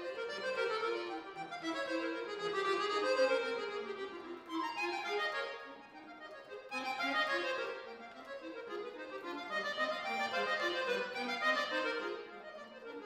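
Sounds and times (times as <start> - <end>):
accordion fast runs: 0.0 - 13.0.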